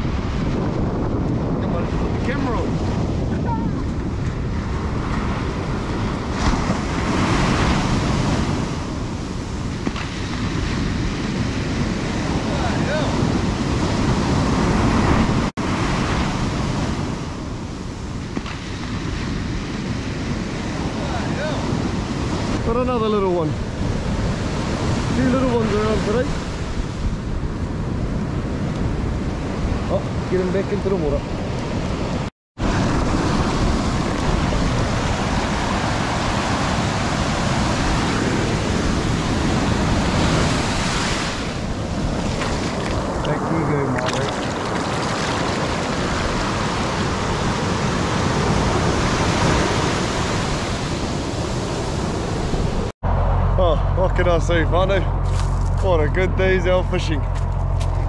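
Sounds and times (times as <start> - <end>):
ocean surf breaking: 0.0 - 55.2
wind rumbling on microphone: 0.0 - 58.0.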